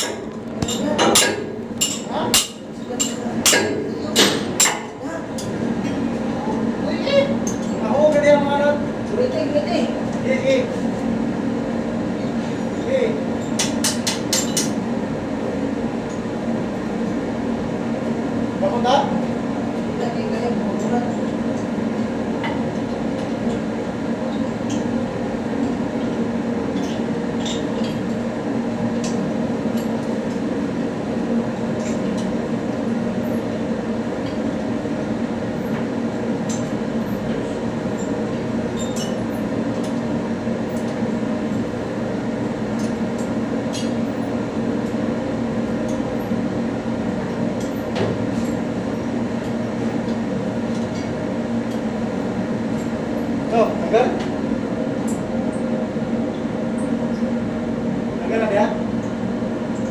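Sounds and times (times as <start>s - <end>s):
machinery hum: 0.0s - 59.9s.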